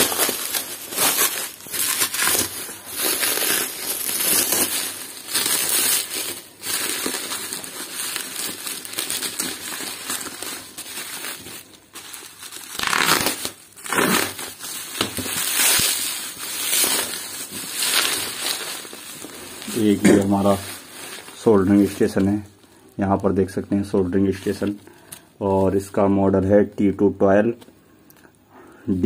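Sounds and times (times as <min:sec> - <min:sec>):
bubble wrap crinkling: 0:00.0 - 0:27.7.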